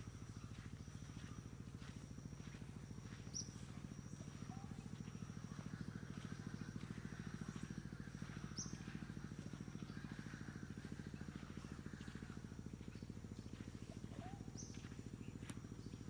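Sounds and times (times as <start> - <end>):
low rapid throbbing pulse: 0.0 - 16.0.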